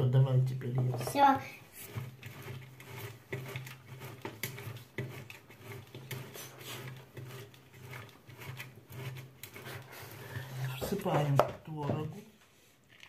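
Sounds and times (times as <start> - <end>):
cheese scraping on a grater: 0.9 - 11.4.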